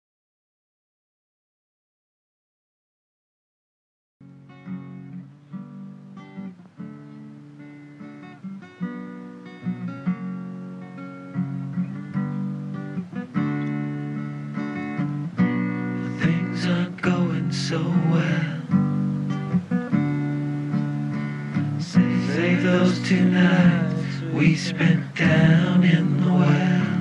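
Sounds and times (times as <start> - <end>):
acoustic guitar playing chords: 4.2 - 27.0.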